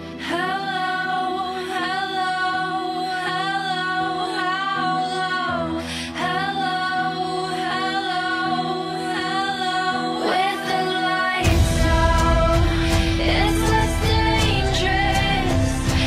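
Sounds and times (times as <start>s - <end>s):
soft musical accompaniment: 0.0s - 16.0s.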